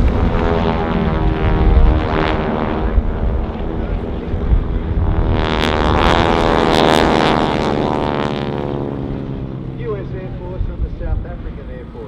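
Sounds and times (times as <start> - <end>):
propeller planes droning overhead: 0.0 - 12.0.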